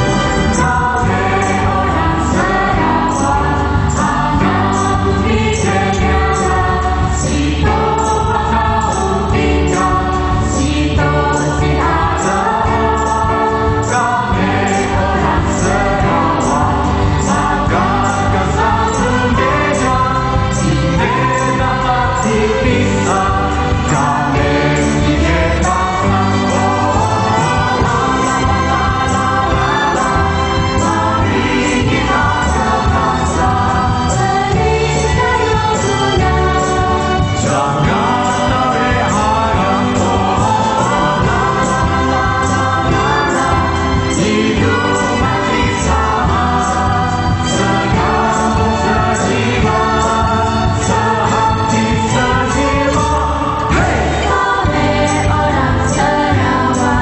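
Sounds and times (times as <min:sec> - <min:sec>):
band with percussion: 0:00.0 - 0:57.0
young voices singing: 0:00.0 - 0:57.0.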